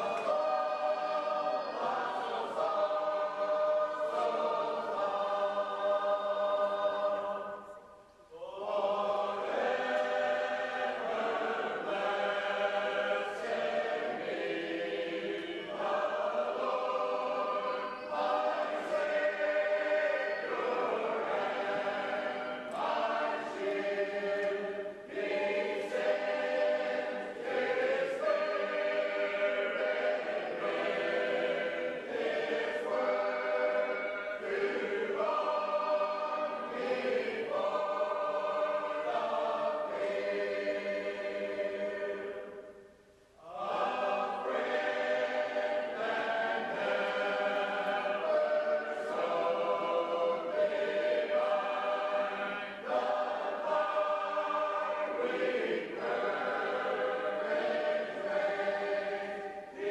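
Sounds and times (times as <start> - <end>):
choir singing unaccompanied: 0.0 - 59.9.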